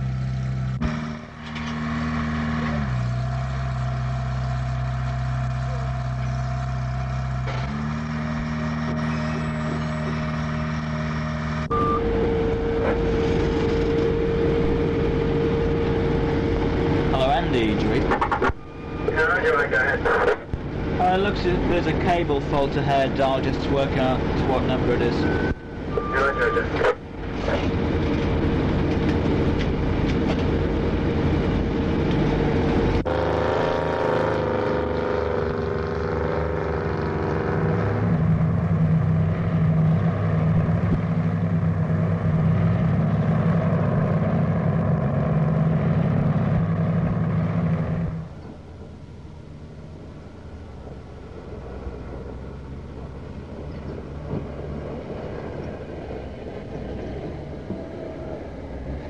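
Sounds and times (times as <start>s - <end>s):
distant vehicle engine: 0.0s - 59.0s
truck engine running loudly: 0.0s - 59.0s.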